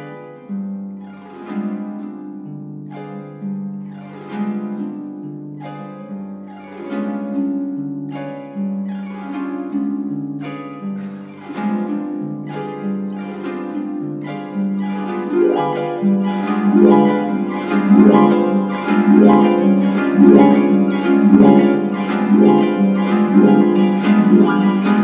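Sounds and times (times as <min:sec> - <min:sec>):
harp playing chords and runs: 0:00.0 - 0:25.0.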